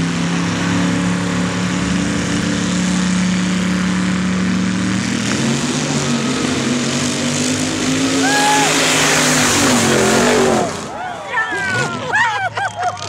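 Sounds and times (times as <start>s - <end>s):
truck engines accelerating: 0.0s - 13.0s.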